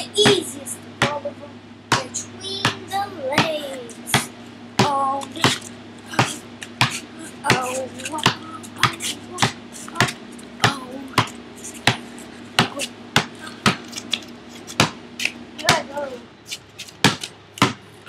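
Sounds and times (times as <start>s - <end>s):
basketball dribbling: 0.2s - 1.3s, 1.9s - 17.9s.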